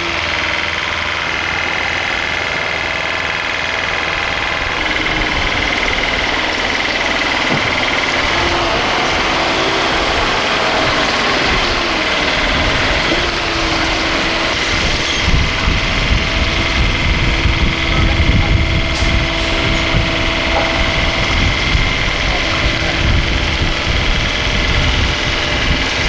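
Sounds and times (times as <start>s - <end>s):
engine running: 0.0s - 26.0s
steady whine: 0.0s - 26.0s.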